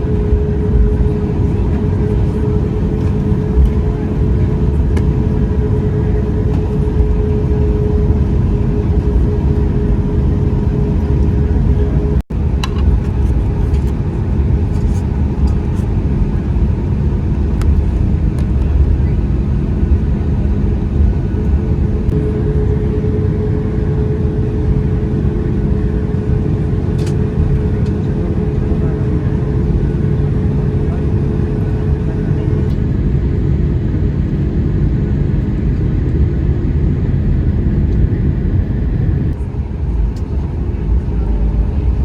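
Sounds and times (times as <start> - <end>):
airliner engine and airflow rumble: 0.0 - 42.0.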